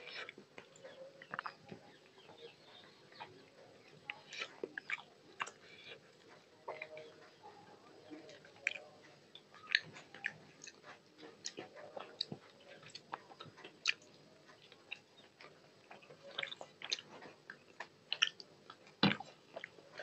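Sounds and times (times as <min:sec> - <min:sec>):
chewing with wet mouth clicks: 0:00.0 - 0:07.4, 0:08.3 - 0:20.0.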